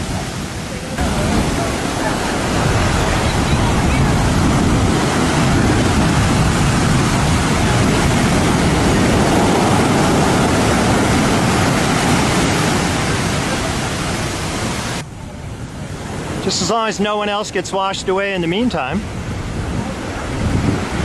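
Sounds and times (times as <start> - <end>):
ocean waves crashing: 0.0 - 21.0.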